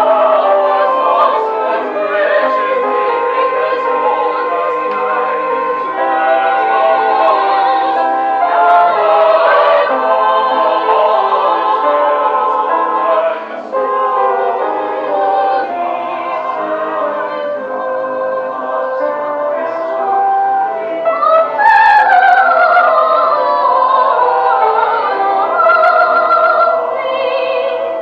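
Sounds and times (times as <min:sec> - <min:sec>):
voices singing in harmony: 0:00.0 - 0:28.0.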